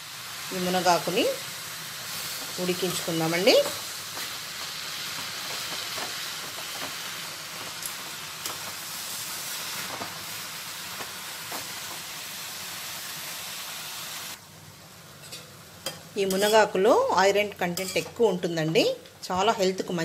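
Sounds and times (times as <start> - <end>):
leaves sizzling in hot pan: 0.0 - 20.0.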